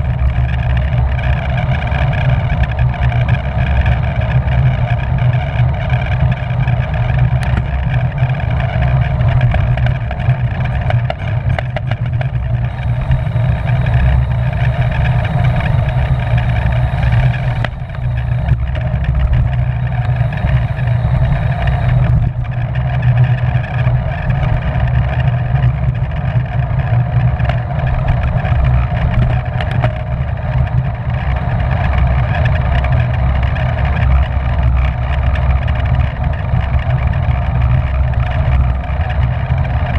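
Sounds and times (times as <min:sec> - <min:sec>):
wind buffeting microphone: 0:00.0 - 0:34.8.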